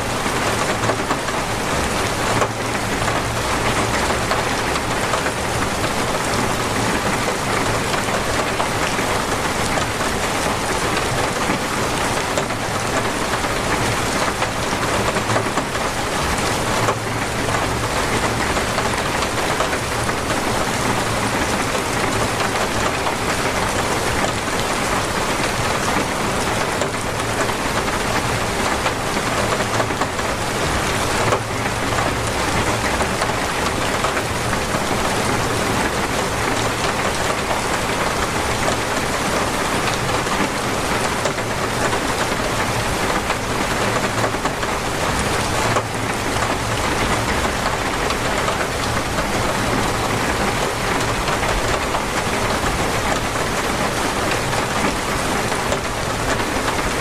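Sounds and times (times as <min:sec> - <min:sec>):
torrential rain pouring: 0:00.0 - 0:57.0.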